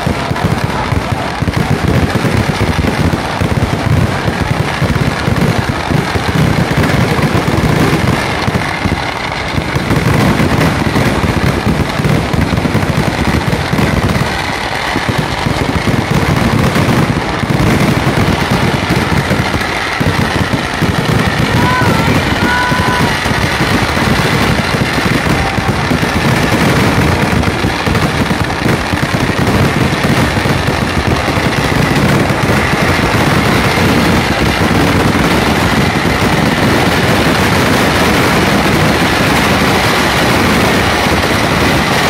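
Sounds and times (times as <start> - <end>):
fireworks exploding: 0.0 - 42.0.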